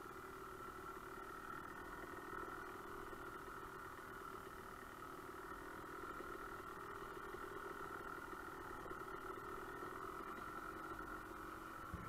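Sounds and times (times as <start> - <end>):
dirt bike engine at low throttle: 0.0 - 12.0.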